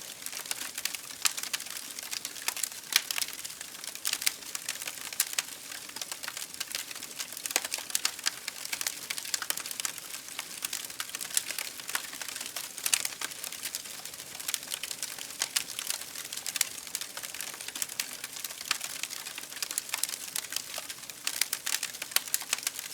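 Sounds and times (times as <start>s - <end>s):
campfire crackling and popping: 0.1s - 22.9s.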